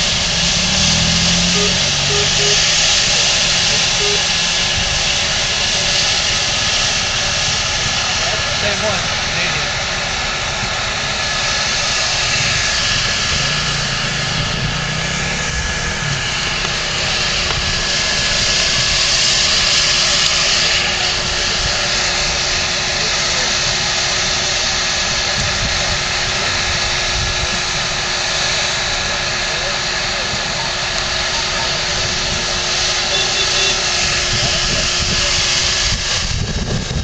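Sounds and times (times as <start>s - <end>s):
steam locomotive hissing: 0.0s - 37.0s.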